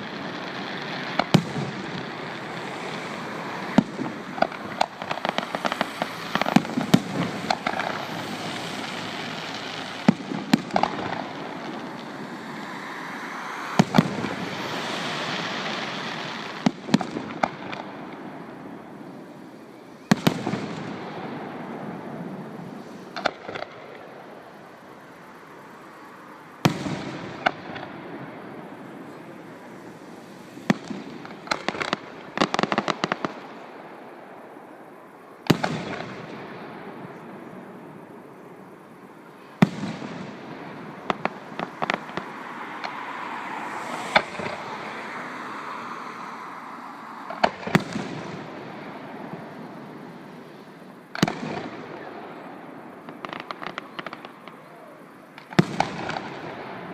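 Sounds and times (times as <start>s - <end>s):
fireworks bursting with sharp bangs: 0.0s - 45.3s, 47.0s - 56.9s
continuous crackling hiss: 0.0s - 56.9s.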